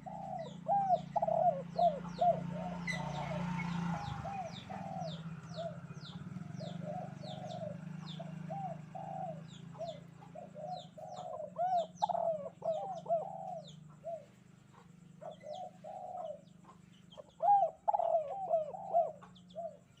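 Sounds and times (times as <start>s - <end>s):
doves cooing: 0.0s - 20.0s
small birds chirping: 0.0s - 20.0s.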